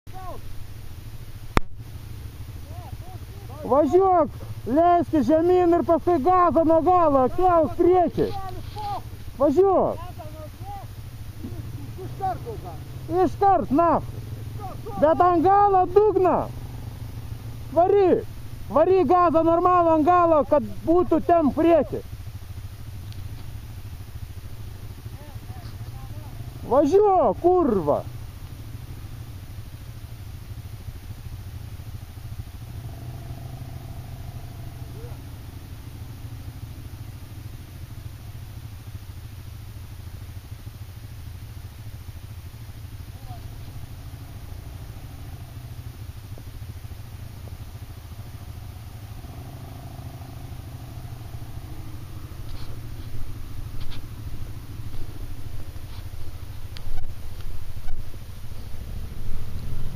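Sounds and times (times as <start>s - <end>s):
quad bike engines idling: 0.0s - 59.9s
faint higher engine tone: 0.1s - 59.9s.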